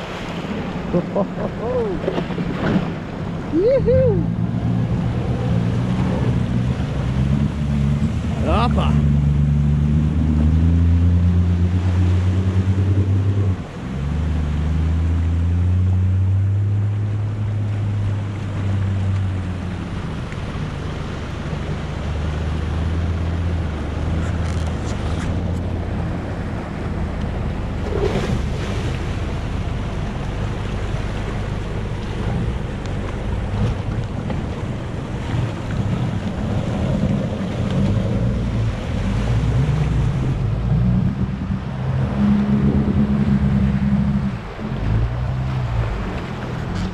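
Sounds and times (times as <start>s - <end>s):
four-wheel-drive engines working: 0.0s - 46.9s
water washing around wheels: 0.0s - 46.9s.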